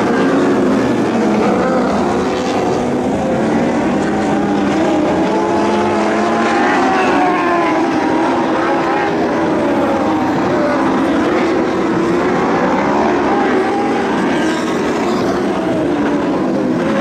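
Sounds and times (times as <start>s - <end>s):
racing car engines at high revs: 0.0s - 17.0s.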